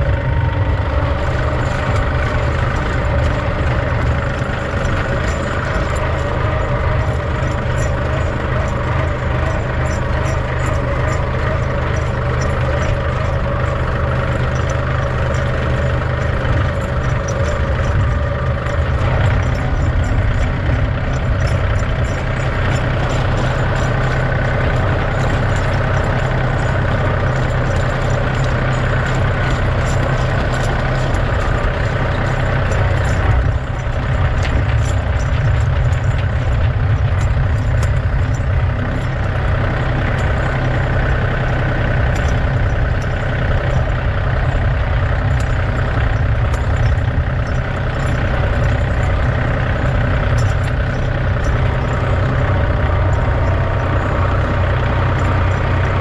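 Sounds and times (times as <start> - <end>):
tire chains rattling and clinking: 0.0 - 56.0
tractor diesel engine running: 0.0 - 56.0.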